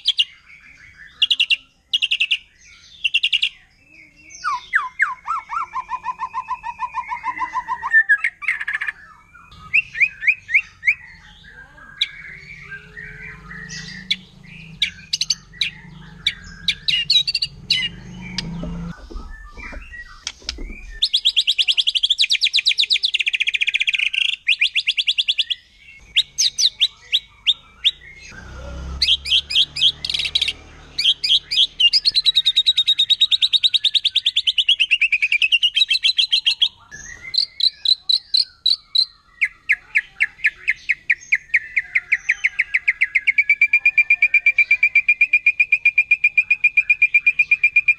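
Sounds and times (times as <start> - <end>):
bird singing rapid trills: 0.0 - 47.9
whistled bird notes: 0.0 - 47.9.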